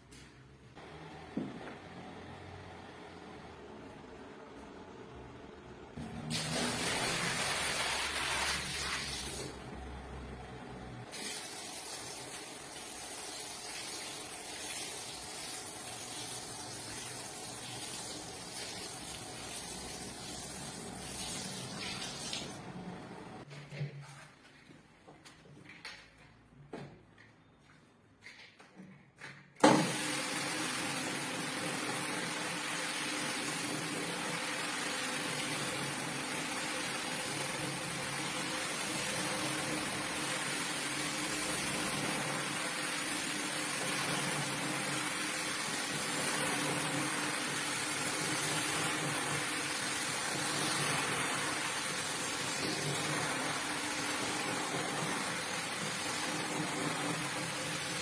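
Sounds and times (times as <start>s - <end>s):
rug cleaning machine running: 0.8s - 23.4s, 29.6s - 58.0s.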